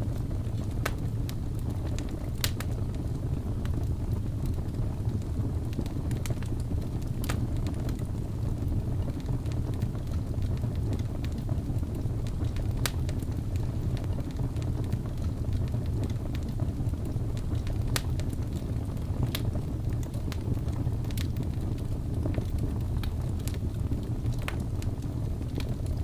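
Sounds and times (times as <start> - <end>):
fire crackles and pops: 0.0 - 26.0
wood fire rumbling: 0.0 - 26.0.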